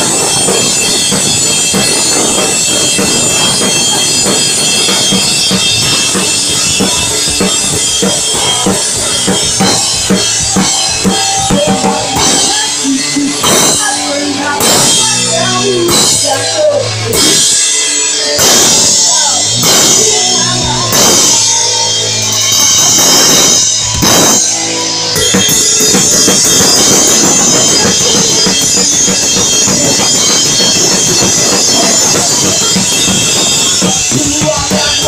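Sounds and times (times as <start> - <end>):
drums and cymbals: 0.0 - 35.0
pop-punk band playing live: 0.0 - 35.0.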